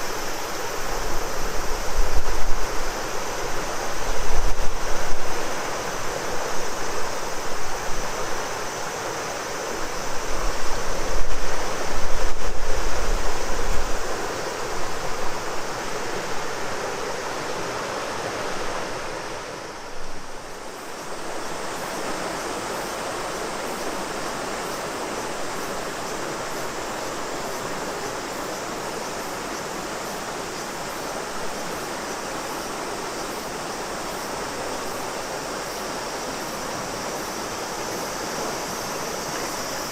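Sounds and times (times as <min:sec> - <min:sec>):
cicadas droning: 0:00.0 - 0:39.9
river water rushing: 0:00.0 - 0:39.9.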